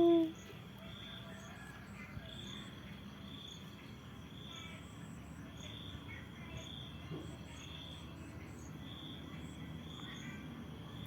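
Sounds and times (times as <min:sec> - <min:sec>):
insects chirping: 0:00.0 - 0:11.0
low background hum: 0:00.0 - 0:11.0.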